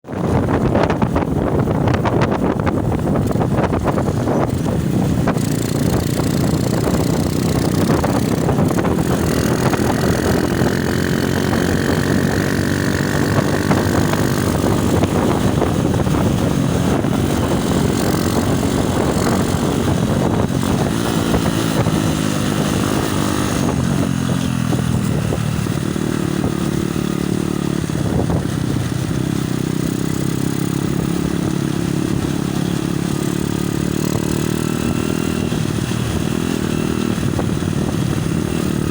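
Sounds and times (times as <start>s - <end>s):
wind buffeting microphone: 0.0s - 38.9s
motorcycle engine running: 0.1s - 38.9s.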